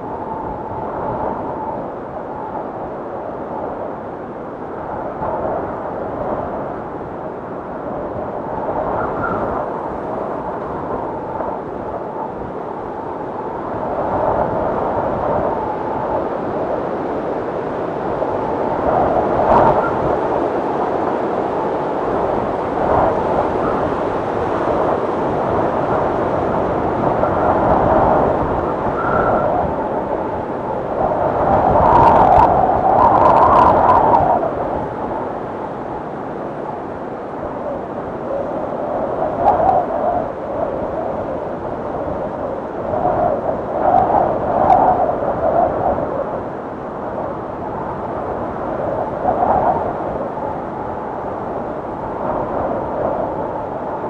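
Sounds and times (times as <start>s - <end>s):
gusting blizzard wind: 0.0s - 54.0s.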